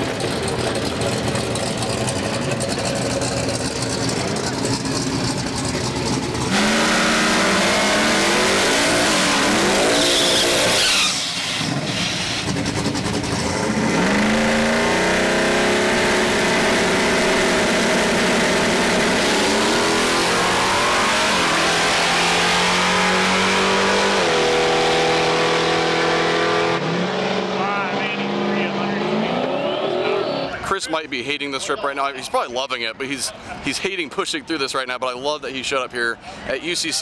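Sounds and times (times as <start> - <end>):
car engine revving: 0.0 - 30.6.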